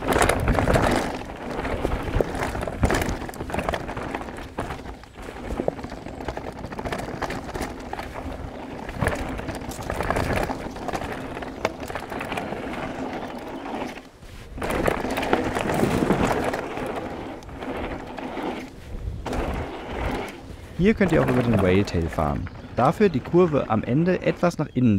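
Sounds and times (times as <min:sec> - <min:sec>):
bike rattling over bumps: 0:00.0 - 0:24.9
bike tyres rolling on dirt: 0:00.0 - 0:24.9.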